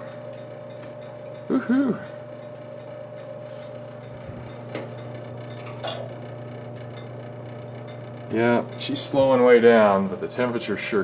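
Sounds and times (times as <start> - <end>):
stove blower humming: 0.0 - 11.0.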